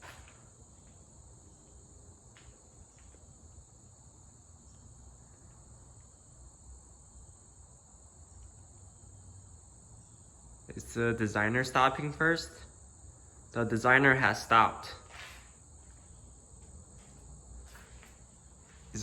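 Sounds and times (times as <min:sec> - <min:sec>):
ceiling fans coasting down: 0:00.0 - 0:19.0.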